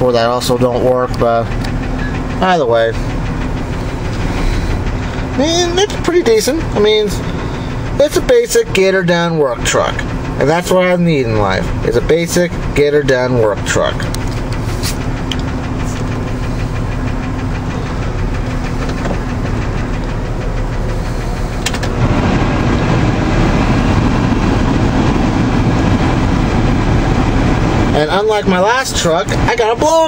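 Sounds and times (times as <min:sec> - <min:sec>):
blower fan rushing air: 0:00.0 - 0:30.0
truck engine idling: 0:00.0 - 0:30.0.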